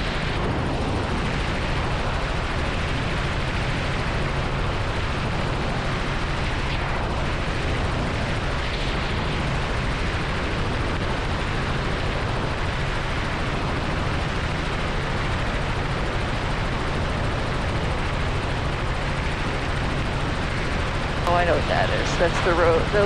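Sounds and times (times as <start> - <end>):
helicopter drone from cockpit: 0.0 - 23.0.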